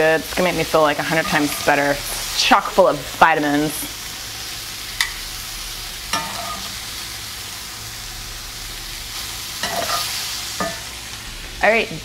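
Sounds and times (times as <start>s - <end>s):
stir fry sizzling in skillet: 0.0s - 12.0s.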